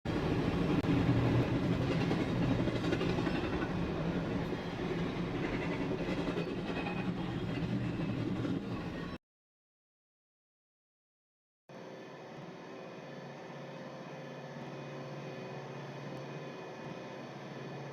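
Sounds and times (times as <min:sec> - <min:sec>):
train running on rails: 0:00.1 - 0:09.2, 0:11.7 - 0:17.9.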